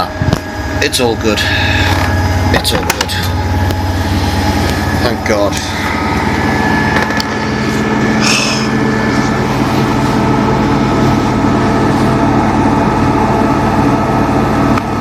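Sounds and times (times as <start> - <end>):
washing machine drum spinning: 0.0 - 15.0.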